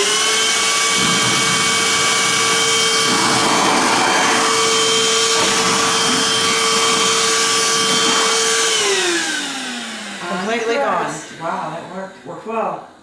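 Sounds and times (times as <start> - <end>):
vacuum sucking liquid: 0.0 - 12.3
handheld vacuum whine: 0.0 - 12.4.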